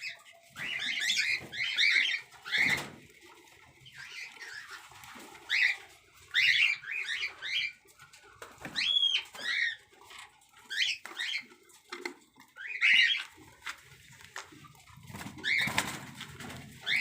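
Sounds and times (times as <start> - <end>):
cockatiels chirping and calling: 0.0 - 17.0.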